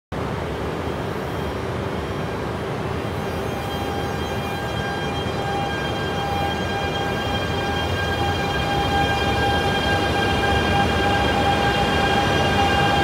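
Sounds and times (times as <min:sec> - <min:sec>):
train hum and rumble: 0:00.2 - 0:13.0
thin electric whine: 0:01.1 - 0:13.0.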